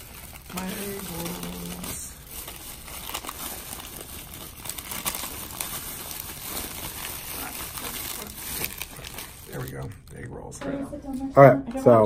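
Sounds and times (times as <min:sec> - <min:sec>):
plastic bag and paper crinkling: 0:00.0 - 0:10.5.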